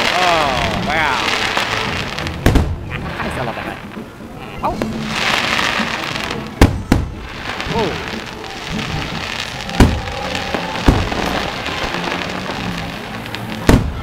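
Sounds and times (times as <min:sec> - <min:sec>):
firework shells bursting: 0:00.0 - 0:14.0.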